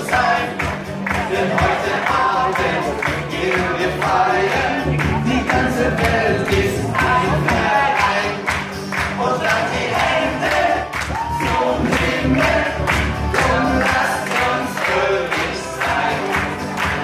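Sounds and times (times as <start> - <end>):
backing music with steady beat: 0.0 - 17.0
group of voices singing: 0.0 - 17.0.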